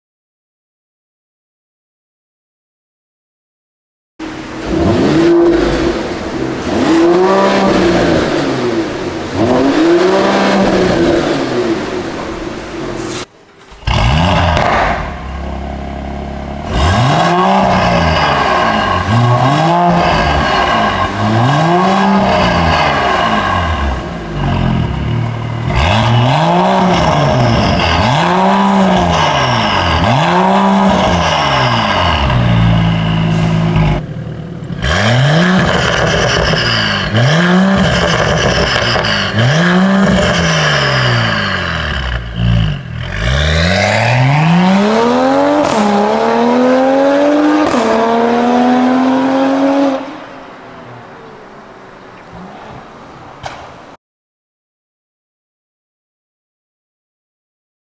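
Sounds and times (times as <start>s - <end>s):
car engine revving: 4.2s - 53.9s.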